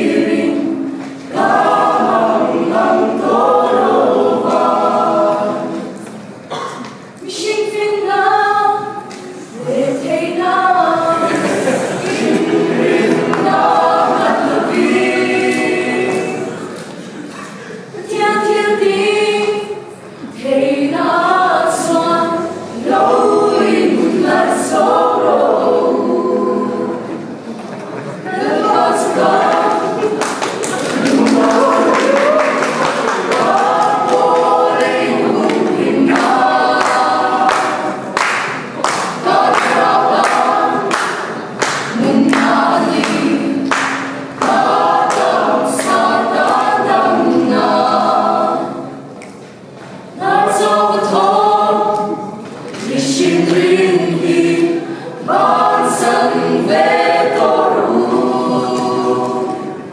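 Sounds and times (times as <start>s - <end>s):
a cappella group singing in harmony: 0.0s - 59.9s.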